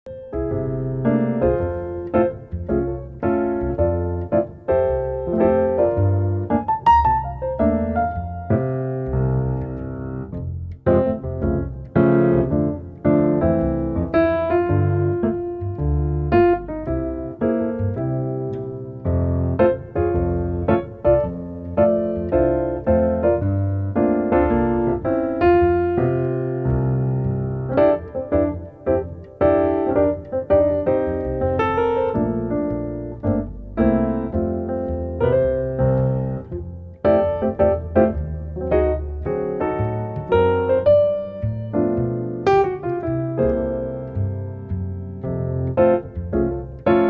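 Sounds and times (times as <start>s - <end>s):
solo piano music: 0.1s - 47.0s.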